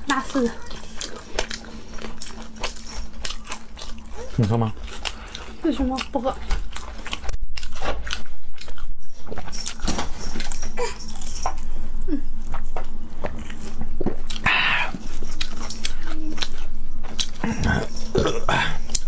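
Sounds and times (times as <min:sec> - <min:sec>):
crunching and chewing food: 0:00.0 - 0:19.0.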